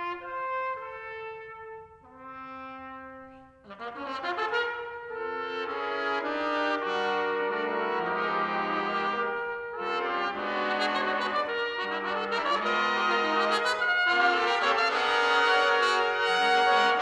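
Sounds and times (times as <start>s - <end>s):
trumpet ensemble playing chords: 0.0s - 17.0s.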